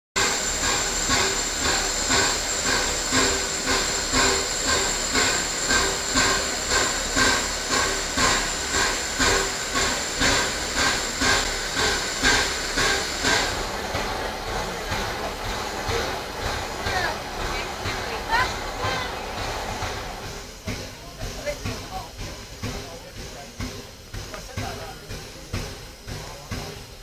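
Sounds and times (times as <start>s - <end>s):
steady pulsing beat: 0.2s - 27.0s
steam locomotive hissing steam: 0.2s - 27.0s.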